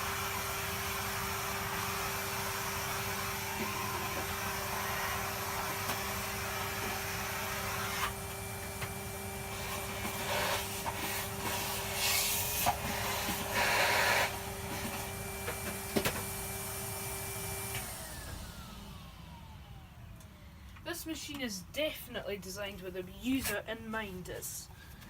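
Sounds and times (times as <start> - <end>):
vacuum cleaner running: 0.0 - 20.7.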